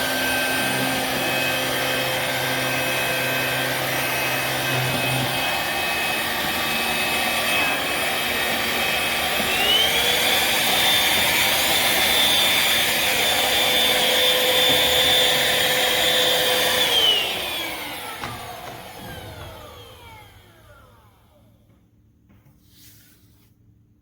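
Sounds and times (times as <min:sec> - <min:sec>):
vacuum motor whining: 0:00.0 - 0:21.7.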